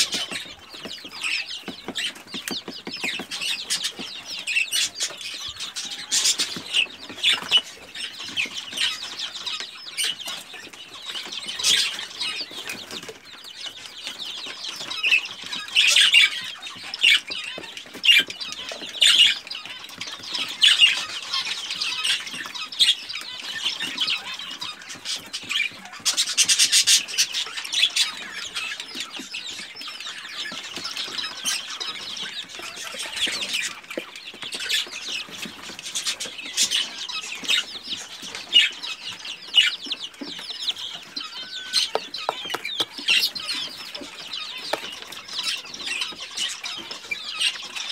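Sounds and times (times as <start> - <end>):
chicks cheeping: 0.0 - 47.9
chicks scratching and pecking: 0.0 - 47.9.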